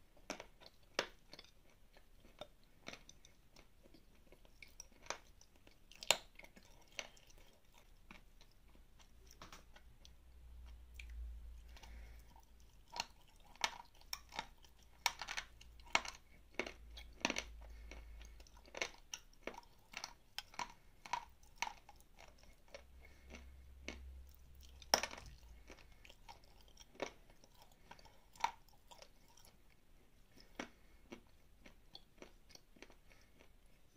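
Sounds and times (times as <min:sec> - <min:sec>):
crunching and chewing clay: 0:00.0 - 0:33.9.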